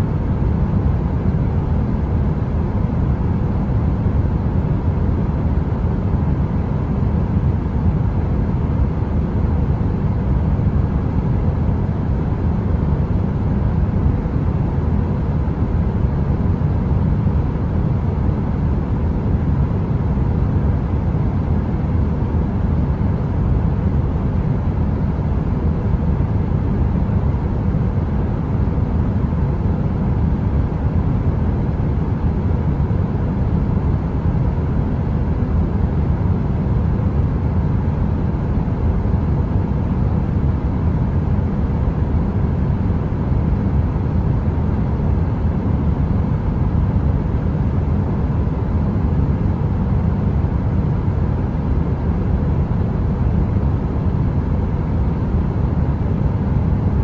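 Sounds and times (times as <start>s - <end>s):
faint steady hum: 0.0s - 57.0s
heater fan running: 0.0s - 57.0s.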